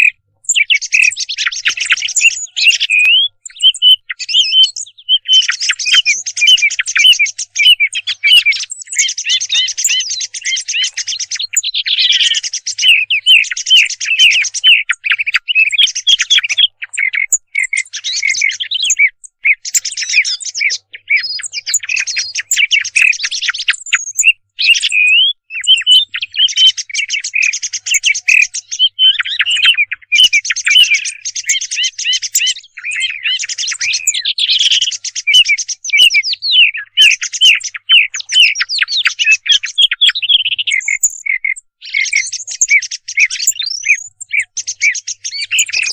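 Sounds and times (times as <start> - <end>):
recorded songbird calls: 0.0 - 45.9.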